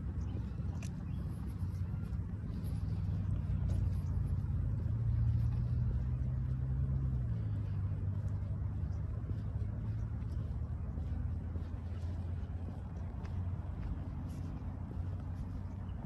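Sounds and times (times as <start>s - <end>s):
motor vehicle engine rumble: 0.0s - 16.0s.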